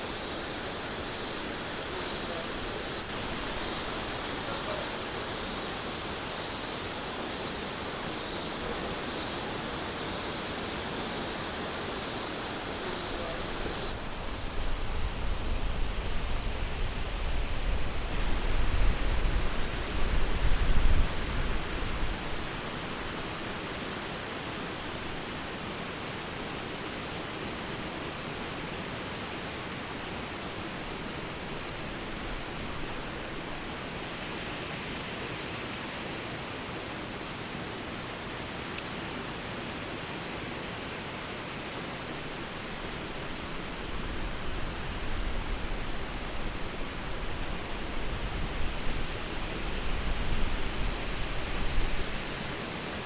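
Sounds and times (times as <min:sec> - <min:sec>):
crickets trilling: 0:00.0 - 0:53.0
even hiss: 0:00.0 - 0:53.0.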